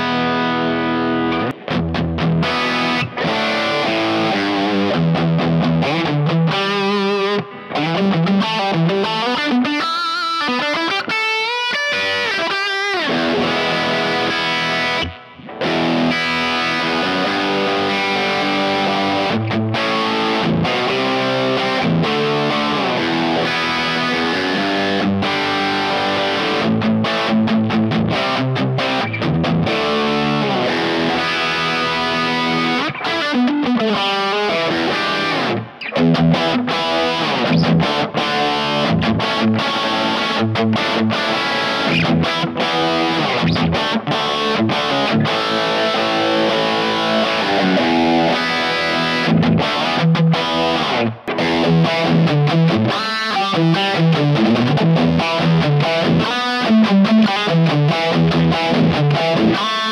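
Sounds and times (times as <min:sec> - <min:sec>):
distorted electric guitar riffs: 0:00.0 - 0:59.9.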